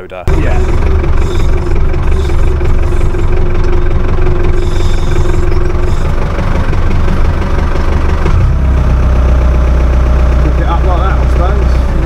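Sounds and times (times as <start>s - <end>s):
tractor engine running: 0.2s - 12.0s.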